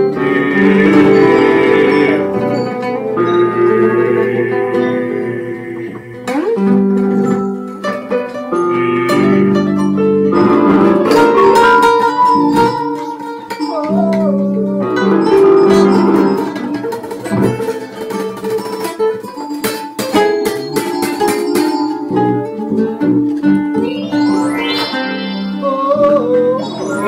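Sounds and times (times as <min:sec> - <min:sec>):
electronic keyboard playing: 0:00.0 - 0:27.0
plucked acoustic guitar: 0:00.0 - 0:27.0.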